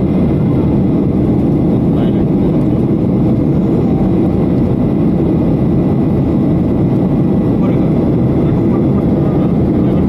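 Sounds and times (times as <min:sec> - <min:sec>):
airliner engines in cabin: 0:00.0 - 0:10.0.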